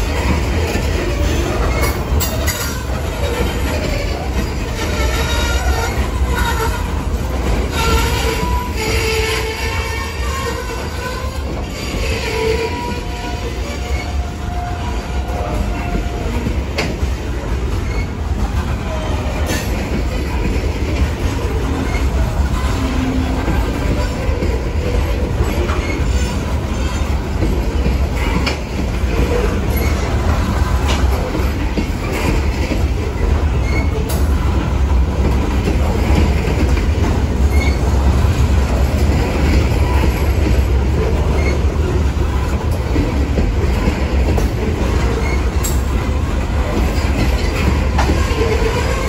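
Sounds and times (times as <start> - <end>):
freight train rolling past: 0.0 - 49.0
steel wheels rumbling on rail: 0.0 - 49.0
wheels clacking over rail joints: 0.0 - 49.0.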